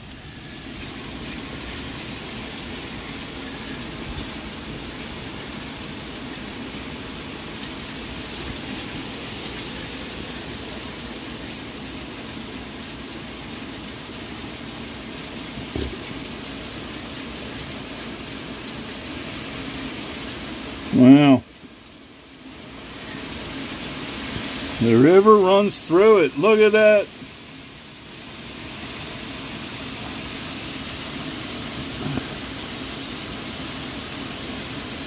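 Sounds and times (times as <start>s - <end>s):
heavy rain and hail: 0.0s - 35.0s.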